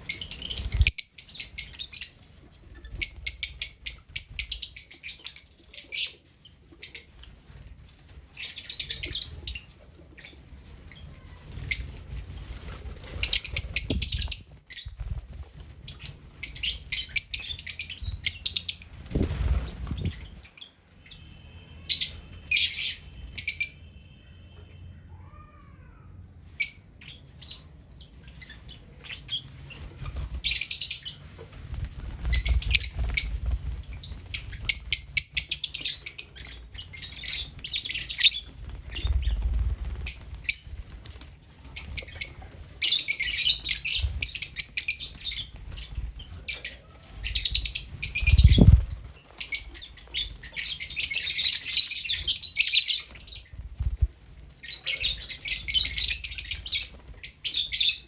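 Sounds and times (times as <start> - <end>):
lovebirds chirping: 0.0 - 23.8, 26.6 - 58.0.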